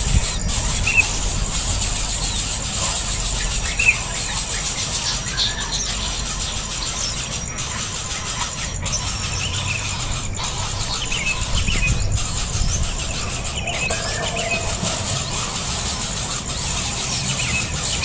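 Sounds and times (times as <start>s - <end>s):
nestling birds begging calls: 0.0s - 18.0s
steady background hiss: 0.0s - 18.0s.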